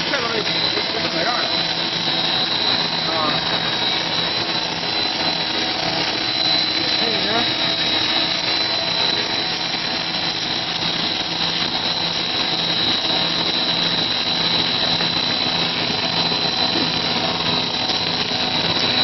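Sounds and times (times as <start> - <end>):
extruder motor droning: 0.0 - 19.0
high steady whine: 0.0 - 19.0.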